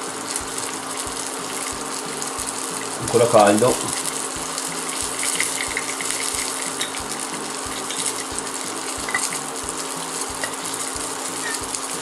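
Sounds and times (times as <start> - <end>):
induction hob humming and hissing: 0.0 - 12.0.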